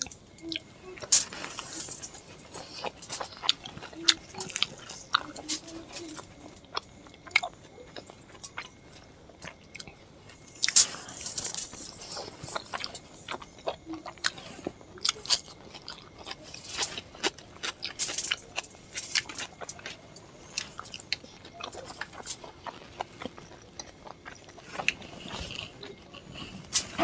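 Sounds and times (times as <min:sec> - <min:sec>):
wet chewing and mouth smacks: 0:00.0 - 0:27.0.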